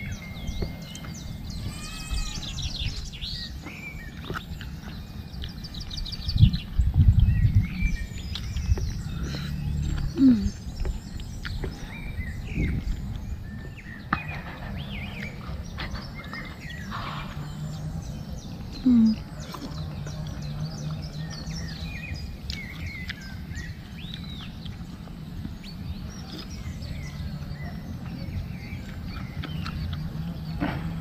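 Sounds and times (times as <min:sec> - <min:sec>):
low outdoor rumble: 0:00.0 - 0:31.0
small birds chirping: 0:00.0 - 0:31.0.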